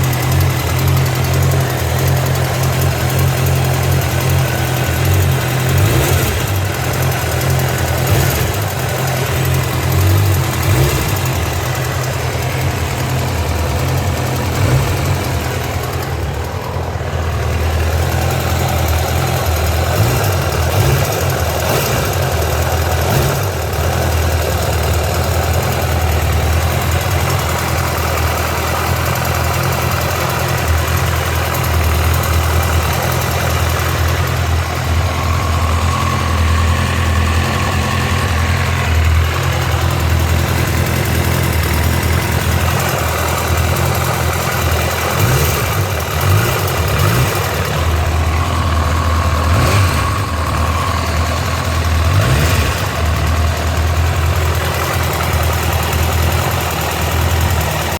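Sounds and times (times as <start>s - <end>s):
motorcycle engine idling: 0.0s - 57.9s.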